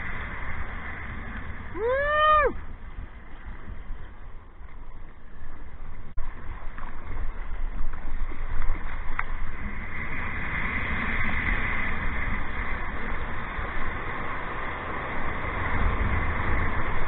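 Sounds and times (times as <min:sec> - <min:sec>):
sea water rushing and splashing: 0:00.0 - 0:17.0
wind buffeting microphone: 0:00.0 - 0:17.0.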